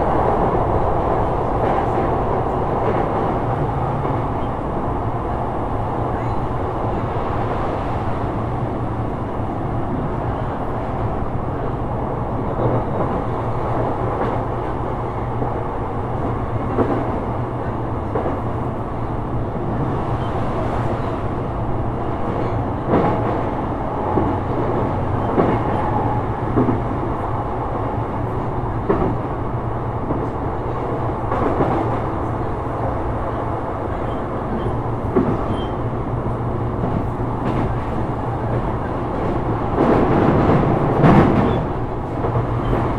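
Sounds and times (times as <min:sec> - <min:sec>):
rail joint clacks: 0:00.0 - 0:42.9
train wheels rumbling on rail: 0:00.0 - 0:42.9.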